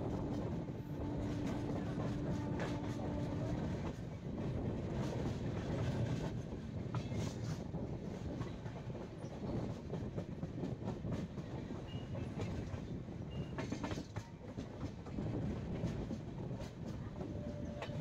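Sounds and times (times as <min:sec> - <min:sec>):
train wheel and rail rumble: 0:00.0 - 0:18.0.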